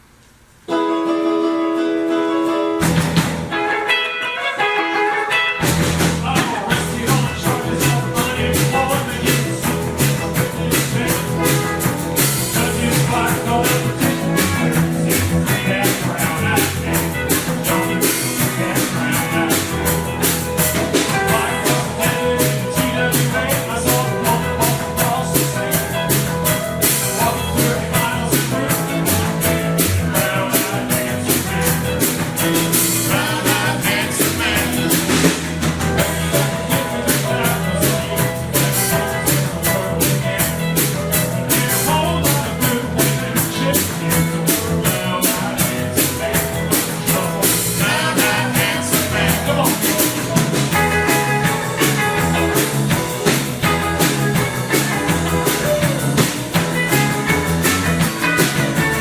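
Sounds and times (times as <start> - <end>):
guitar: 0.0 - 59.0
rock band playing: 0.7 - 59.0
drum kit beat: 2.7 - 59.0.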